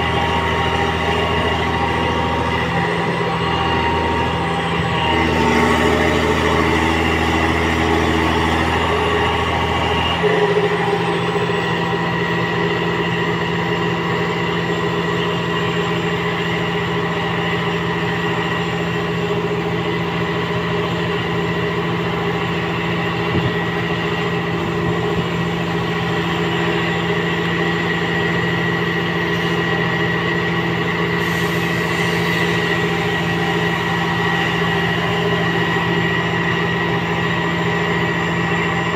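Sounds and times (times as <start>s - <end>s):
diesel engines running under load: 0.0s - 38.9s
steady whine: 0.0s - 38.9s.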